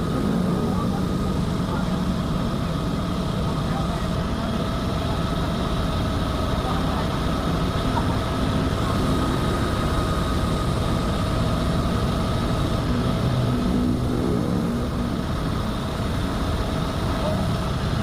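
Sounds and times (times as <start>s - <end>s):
thin steady whine: 0.0s - 18.0s
truck engine idling: 0.0s - 18.0s.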